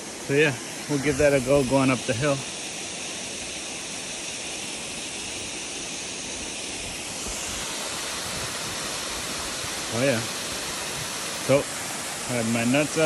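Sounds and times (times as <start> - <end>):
waterfall rushing hiss: 0.0 - 13.0.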